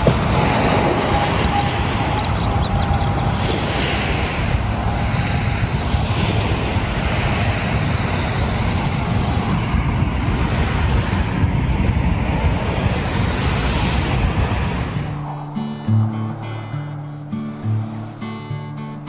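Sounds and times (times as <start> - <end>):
small waves lapping shore: 0.0 - 11.4, 12.3 - 19.0
wind buffeting microphone: 0.0 - 19.0.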